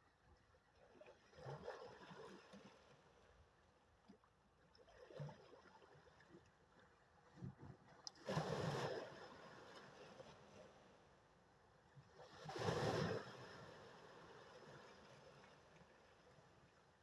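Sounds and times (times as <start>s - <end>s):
small waves lapping: 0.4s - 17.0s.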